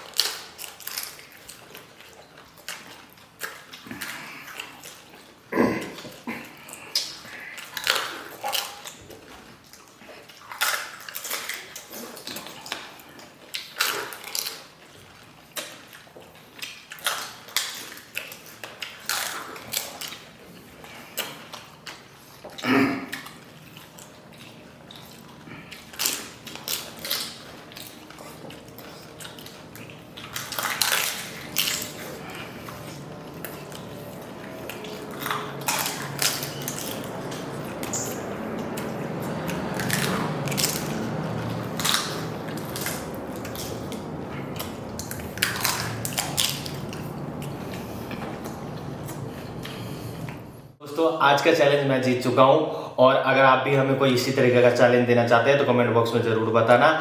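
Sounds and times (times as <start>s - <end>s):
crisp shells crunching when chewed: 0.0s - 50.4s
wet chewing: 0.0s - 50.7s
steady background noise: 0.0s - 57.0s.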